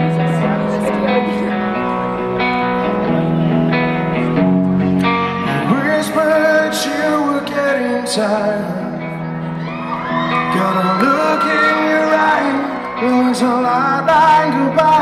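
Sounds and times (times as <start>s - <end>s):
electric guitar: 0.0s - 15.0s.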